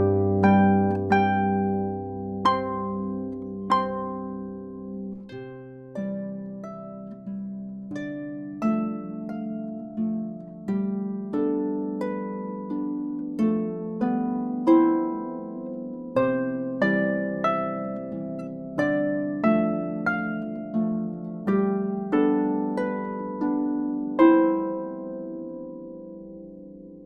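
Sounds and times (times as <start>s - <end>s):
harp playing slow tune: 0.0s - 27.0s.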